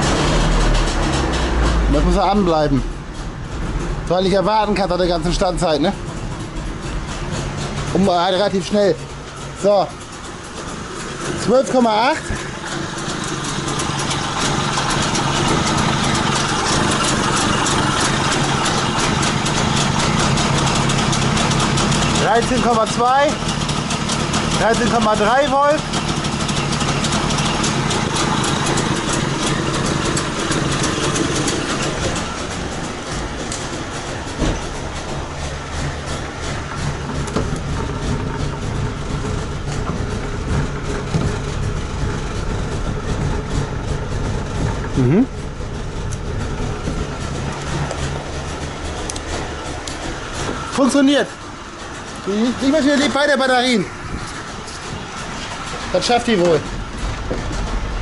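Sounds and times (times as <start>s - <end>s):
two-stroke car engine idling: 0.0s - 58.0s.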